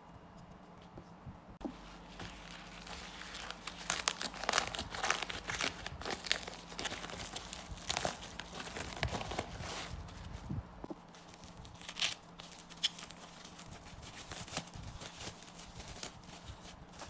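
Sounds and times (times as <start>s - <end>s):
packaging crinkling and tearing: 1.8s - 10.4s, 11.1s - 17.0s.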